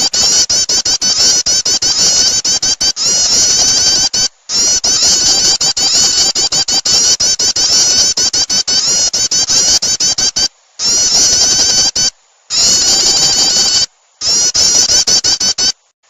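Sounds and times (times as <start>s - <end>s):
recorded bird song chirping: 0.0s - 15.9s.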